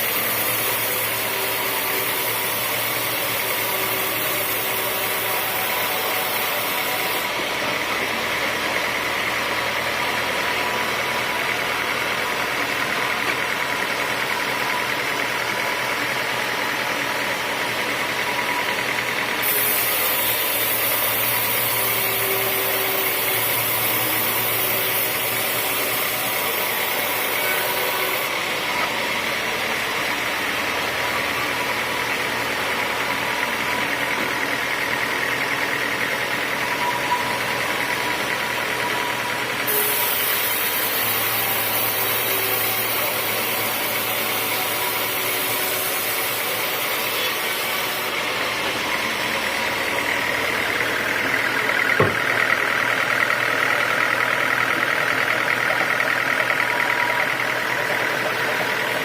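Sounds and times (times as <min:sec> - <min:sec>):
high machine whine: 0:00.0 - 0:59.0
sawmill machinery running: 0:00.0 - 0:59.0.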